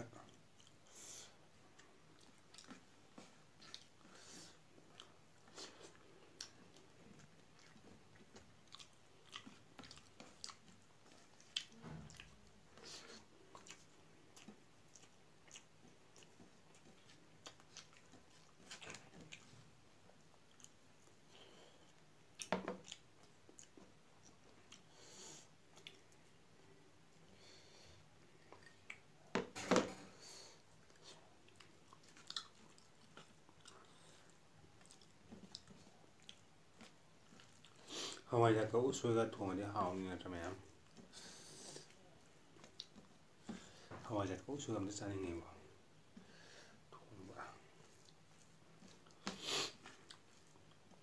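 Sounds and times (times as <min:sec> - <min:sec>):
person chewing: 0:00.2 - 0:26.7, 0:27.4 - 0:29.3, 0:30.2 - 0:38.3, 0:40.6 - 0:44.0, 0:46.1 - 0:51.0.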